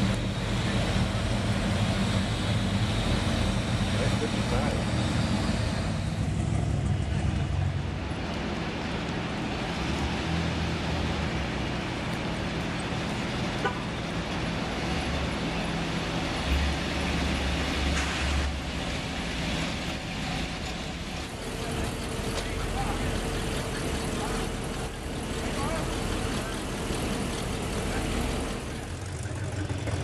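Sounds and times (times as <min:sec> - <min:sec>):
car engines rumbling: 0:00.0 - 0:30.0
street noise: 0:00.0 - 0:30.0.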